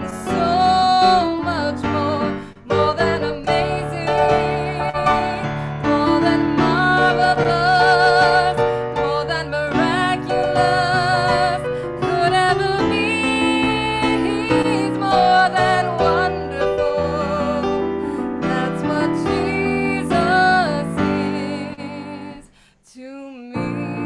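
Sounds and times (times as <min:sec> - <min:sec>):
piano accompaniment: 0:00.0 - 0:22.5, 0:23.6 - 0:24.0
person singing with vibrato: 0:00.0 - 0:24.0.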